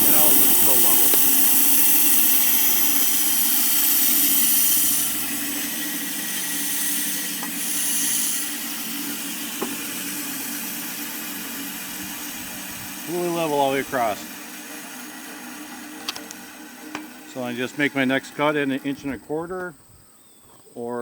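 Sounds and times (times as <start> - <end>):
loud high hiss: 0.0 - 19.4
sawmill engine humming: 0.0 - 19.8.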